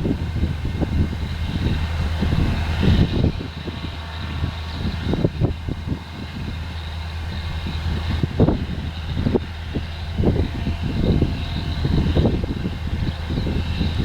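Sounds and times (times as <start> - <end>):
harvesting machinery engine drone: 0.0 - 14.0
low thuds and rumbles: 0.0 - 14.0.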